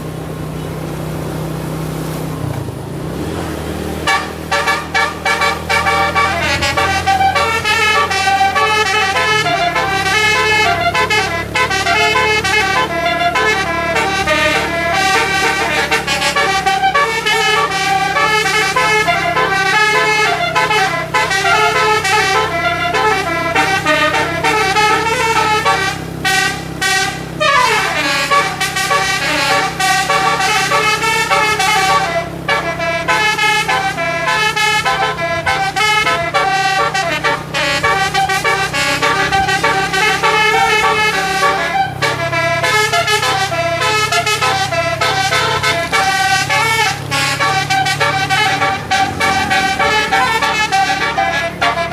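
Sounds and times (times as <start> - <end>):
bus engine running: 0.0 - 51.9
multi-tone air horn melodies: 3.2 - 51.9.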